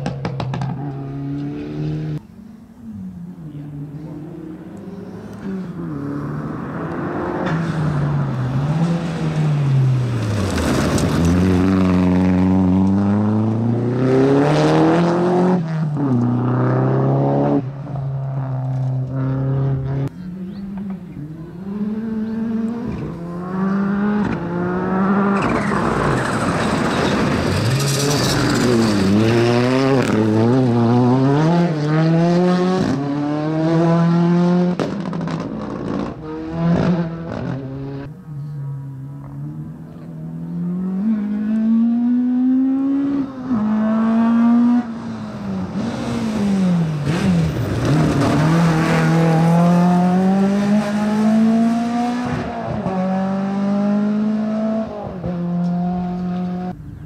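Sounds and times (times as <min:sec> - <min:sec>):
rally car engine revving: 0:00.0 - 0:02.2, 0:02.9 - 0:56.8.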